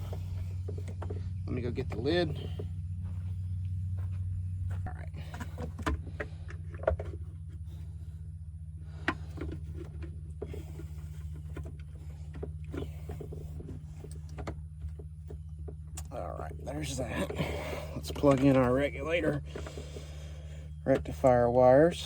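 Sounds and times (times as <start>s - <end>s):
parts clicking and knocking: 0.0s - 2.8s, 5.2s - 7.7s, 8.9s - 22.0s
steady low hum: 0.0s - 22.0s.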